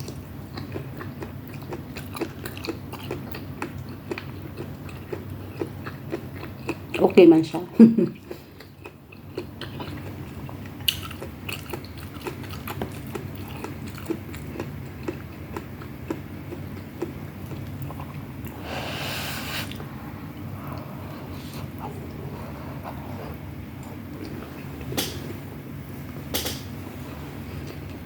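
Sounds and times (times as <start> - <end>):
person chewing food: 0.0 - 7.0, 8.2 - 25.4.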